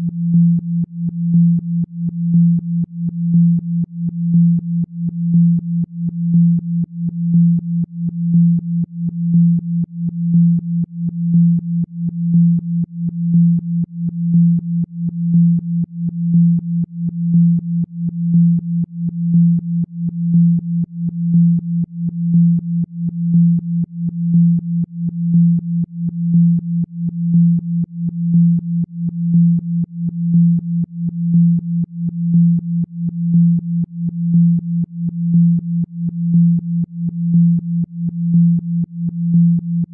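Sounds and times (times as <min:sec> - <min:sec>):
low pulsing synthesized tone: 0:00.0 - 0:39.9.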